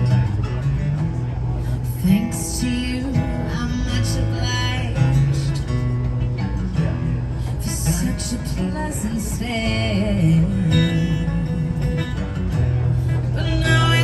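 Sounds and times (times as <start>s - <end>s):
acoustic guitar plucked and strummed: 0.0s - 14.0s.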